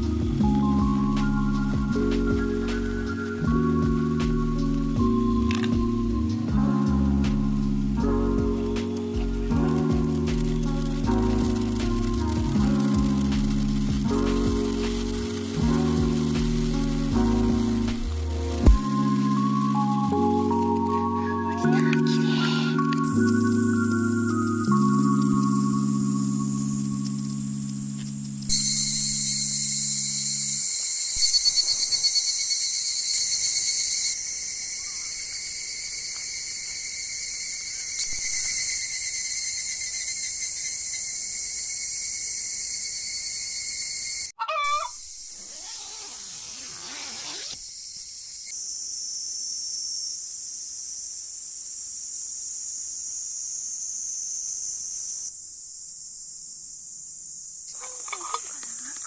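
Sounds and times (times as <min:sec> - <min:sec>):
insects trilling drone: 0:00.0 - 0:59.0.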